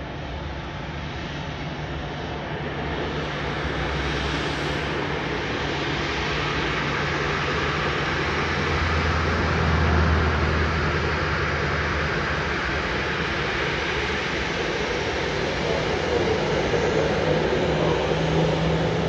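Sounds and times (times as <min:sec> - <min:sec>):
jet engines running at low power: 0:00.0 - 0:19.0.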